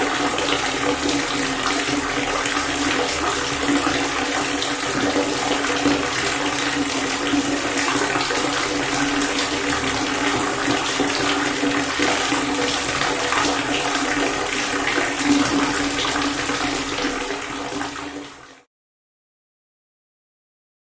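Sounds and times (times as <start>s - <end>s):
water pouring and splashing: 0.0s - 18.7s.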